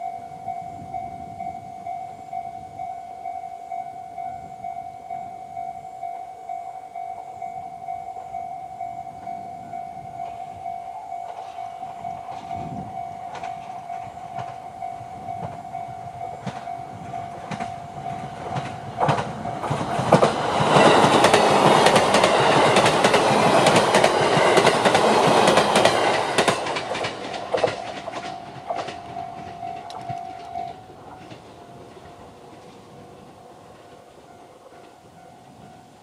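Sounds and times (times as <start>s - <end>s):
level-crossing bell ringing: 0.0s - 26.8s, 27.4s - 32.4s
electric train passing: 0.0s - 36.0s.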